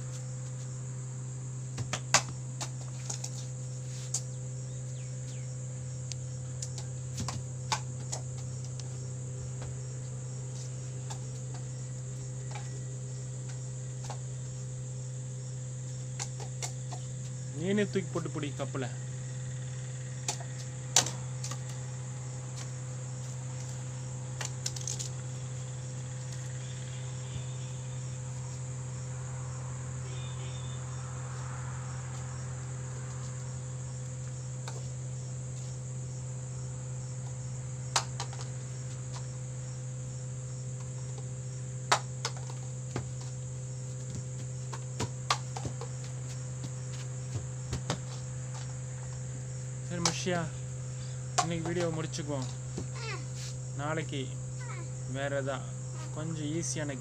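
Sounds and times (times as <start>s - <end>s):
crickets chirping: 0.0s - 57.0s
low steady hum: 0.0s - 57.0s.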